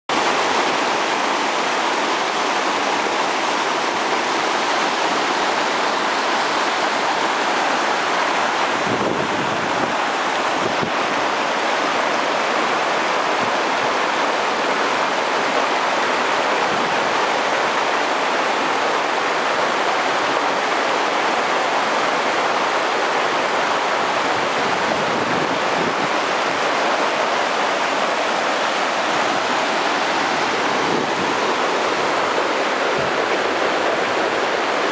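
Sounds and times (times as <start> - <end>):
whitewater rushing over rocks: 0.1 - 34.9.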